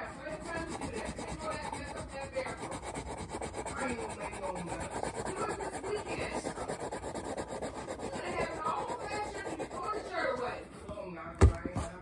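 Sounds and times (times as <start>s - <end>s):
scraping on foam board: 0.0s - 10.6s.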